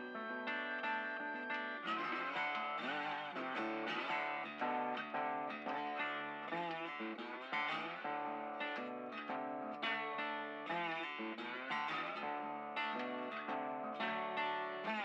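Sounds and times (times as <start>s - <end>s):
guitar plucking notes: 0.0s - 15.0s.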